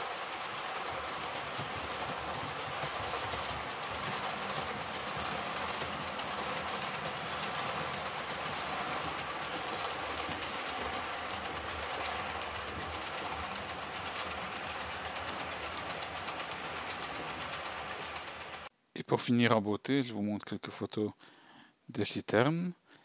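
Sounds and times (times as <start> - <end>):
fine rapid ticking: 0.0 - 18.7
train wagons rolling on track: 0.0 - 18.7.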